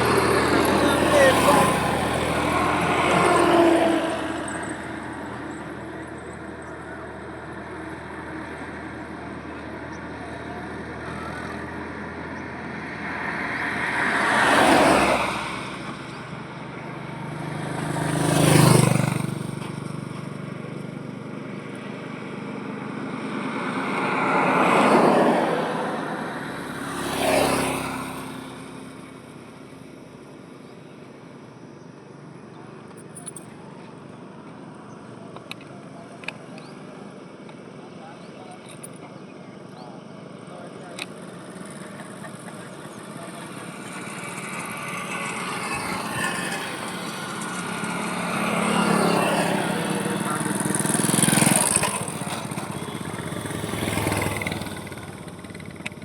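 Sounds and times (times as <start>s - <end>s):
heavy vehicle engine: 0.0s - 56.0s
road noise rumble: 0.0s - 56.0s
vehicles passing: 0.0s - 56.0s.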